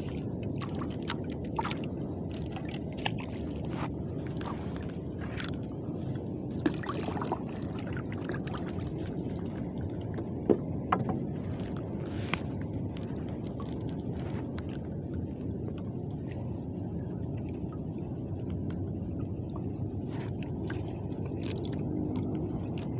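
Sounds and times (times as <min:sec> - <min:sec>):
boat engine rumble: 0:00.0 - 0:22.9.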